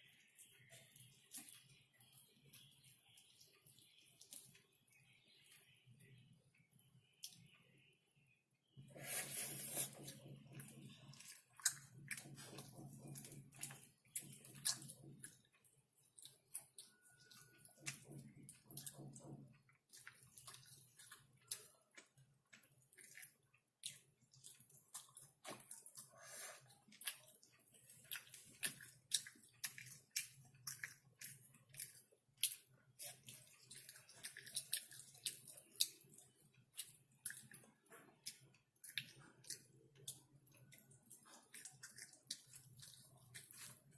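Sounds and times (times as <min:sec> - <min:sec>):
muffled low chewing: 0:00.0 - 0:43.9.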